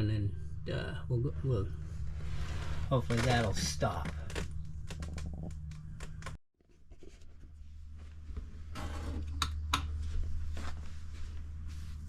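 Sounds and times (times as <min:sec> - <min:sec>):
steady low hum: 0:00.0 - 0:06.4, 0:07.2 - 0:12.0.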